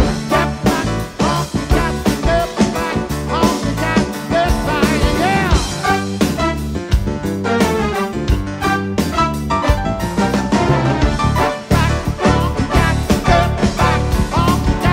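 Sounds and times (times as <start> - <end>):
rock band playing honky-tonk: 0.0 - 14.9.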